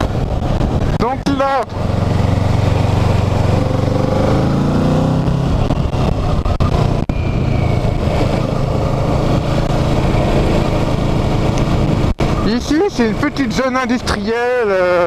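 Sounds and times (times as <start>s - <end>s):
wind rush: 0.0s - 13.2s
motorcycle engine running: 0.0s - 15.0s.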